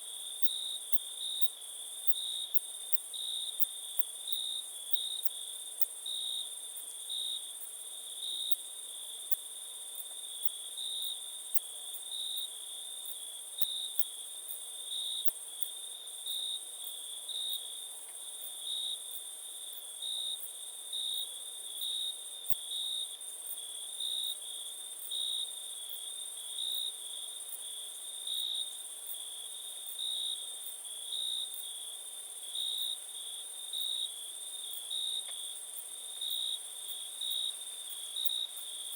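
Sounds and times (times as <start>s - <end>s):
crickets chirping: 0.2s - 38.9s.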